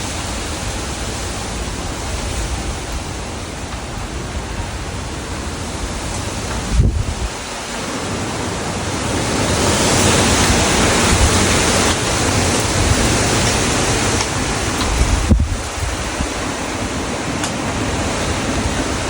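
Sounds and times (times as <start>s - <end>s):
strong wind roaring: 0.0s - 19.0s
wind buffeting microphone: 0.0s - 19.0s.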